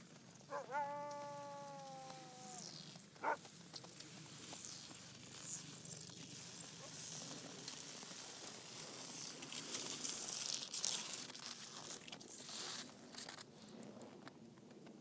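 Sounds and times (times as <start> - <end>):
footsteps crunching on snow: 0.0 - 14.2.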